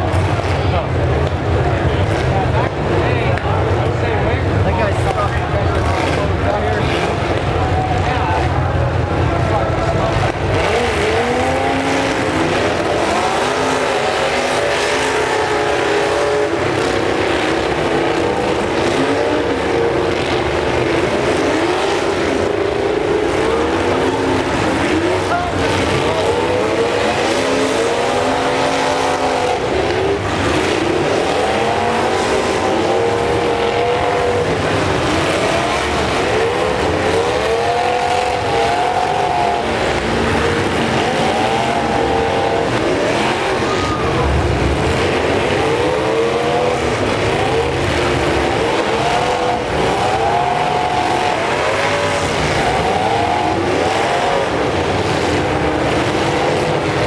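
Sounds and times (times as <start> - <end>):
truck engines revving hard: 0.0 - 57.0.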